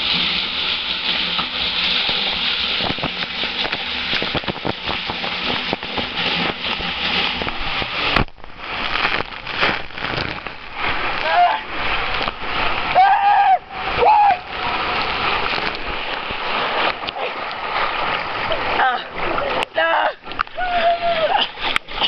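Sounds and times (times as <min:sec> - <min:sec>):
water rushing on a waterslide: 0:00.0 - 0:22.0.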